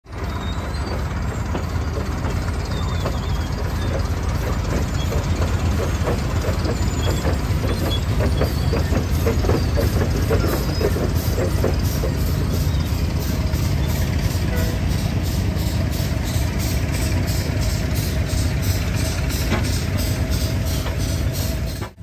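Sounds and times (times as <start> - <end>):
steam engine chuffing: 0.1 - 22.0
steam engine rumble and hiss: 0.1 - 22.0.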